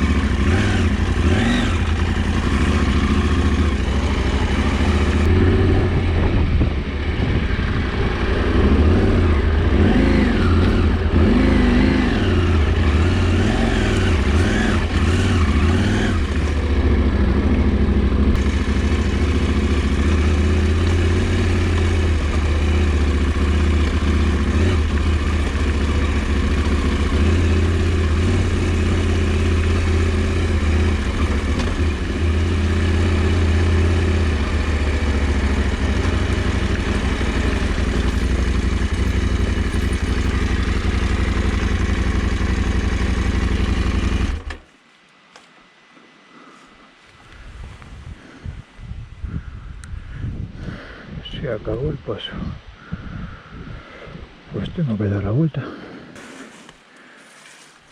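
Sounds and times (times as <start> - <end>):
motorcycle engine at low revs: 0.0 - 57.9.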